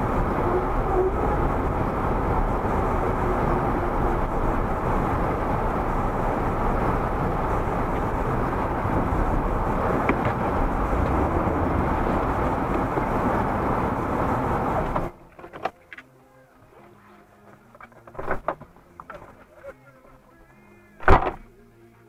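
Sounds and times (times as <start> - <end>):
car engine and tyre rumble: 0.0 - 21.8.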